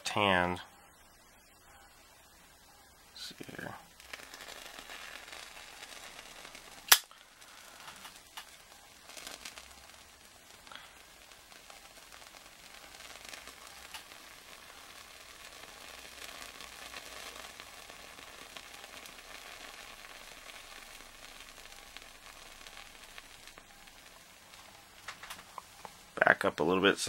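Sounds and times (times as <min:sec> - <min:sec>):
light fire crackles: 0:00.0 - 0:27.0
tinder burning with hiss: 0:00.0 - 0:27.0.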